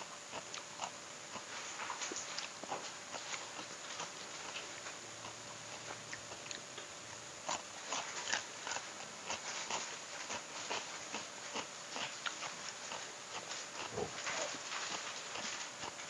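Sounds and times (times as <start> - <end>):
man chewing crunchy cucumber: 0.0 - 16.0.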